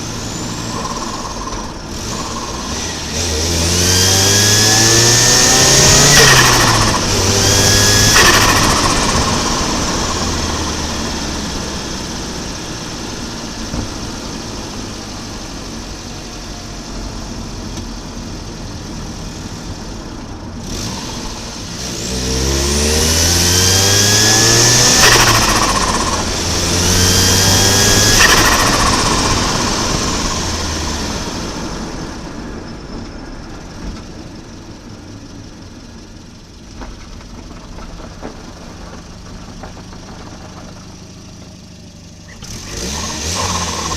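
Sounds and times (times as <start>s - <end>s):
rising turbo whine: 0.0s - 36.4s, 42.3s - 43.9s
car engine accelerating hard: 0.0s - 43.9s.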